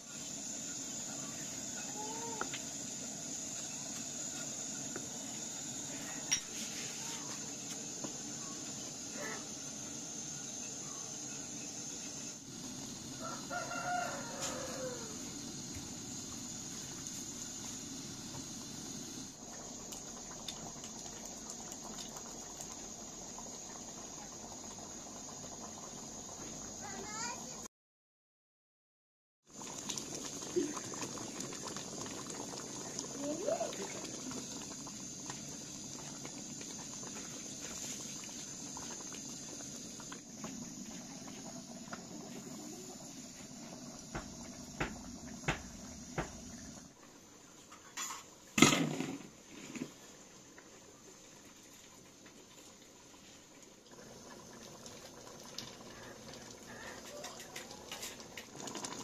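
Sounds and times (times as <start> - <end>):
high insect drone: 0.0 - 27.6, 29.6 - 47.0, 53.8 - 58.5
pot of water boiling: 0.0 - 27.7, 29.4 - 59.0.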